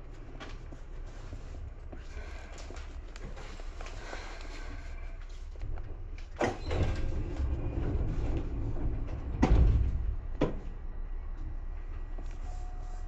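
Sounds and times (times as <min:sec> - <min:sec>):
electric train rumble: 0:00.0 - 0:13.0.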